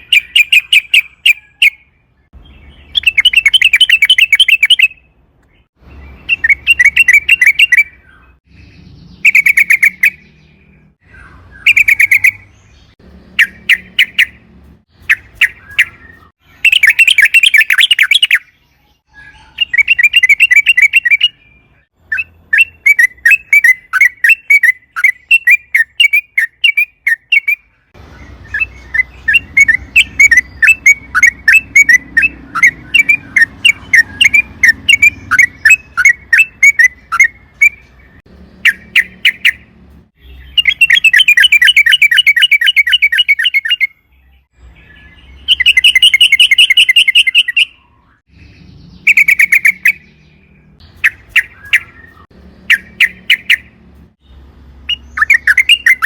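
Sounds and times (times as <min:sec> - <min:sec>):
bird chattering: 0:00.0 - 0:01.8, 0:02.4 - 0:05.1, 0:06.2 - 0:18.5, 0:19.1 - 0:43.9, 0:45.0 - 0:53.9, 0:54.8 - 0:56.0.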